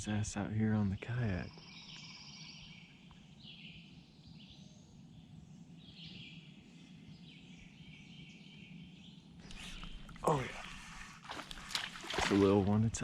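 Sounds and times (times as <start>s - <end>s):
faint chirping birdcalls: 0.0s - 12.2s.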